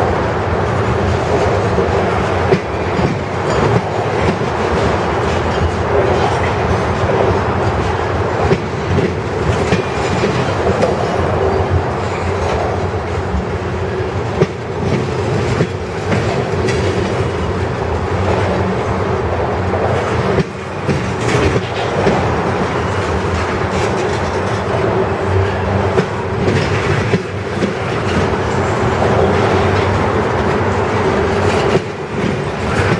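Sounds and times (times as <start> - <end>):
freight train cars rolling: 0.0 - 32.9
wheels clicking over rail joints: 0.6 - 19.1, 19.7 - 32.9.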